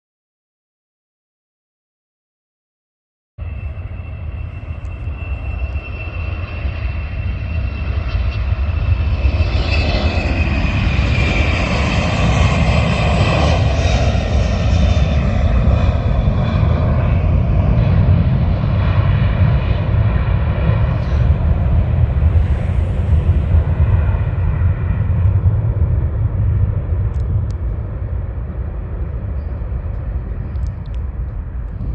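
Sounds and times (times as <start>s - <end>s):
jet engines at takeoff: 3.4s - 31.9s.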